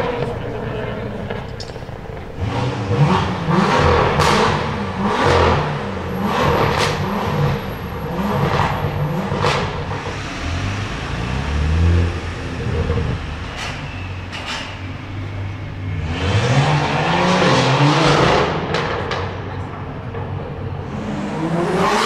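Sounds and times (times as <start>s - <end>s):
exhaust cracks: 0.0s - 15.2s, 16.0s - 22.0s
car engine revving: 0.0s - 22.0s.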